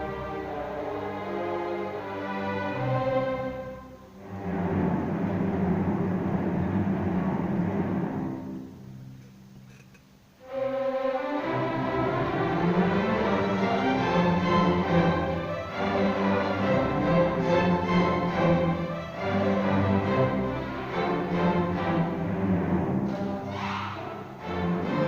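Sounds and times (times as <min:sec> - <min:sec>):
orchestra playing full chords: 0:00.0 - 0:09.2, 0:10.4 - 0:25.0.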